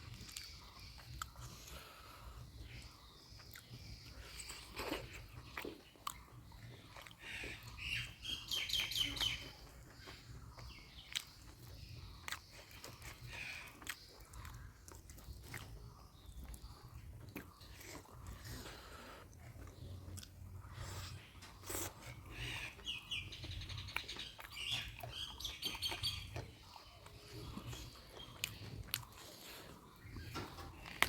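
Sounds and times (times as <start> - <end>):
person chewing food: 0.0 - 7.8, 8.8 - 31.0.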